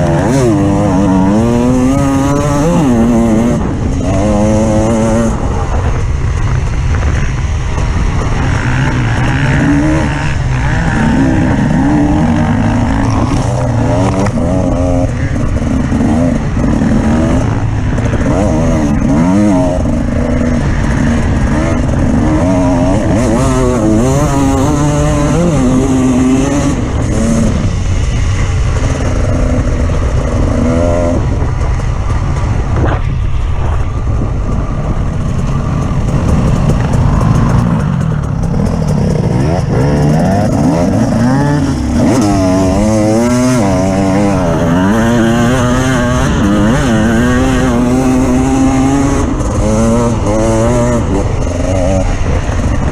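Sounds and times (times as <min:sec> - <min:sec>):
off-road vehicle engine revving: 0:00.0 - 0:52.9.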